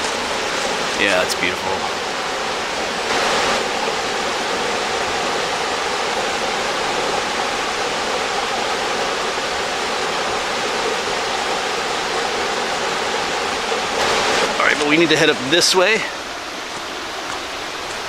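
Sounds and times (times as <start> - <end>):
creek water rushing over rocks: 0.0 - 18.0.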